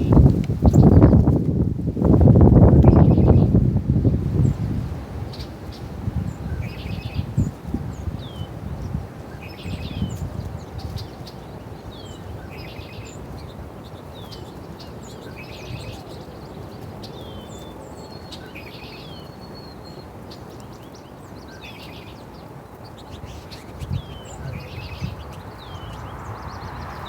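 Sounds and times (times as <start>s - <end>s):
small birds chirping: 0.0s - 1.7s, 2.5s - 27.0s.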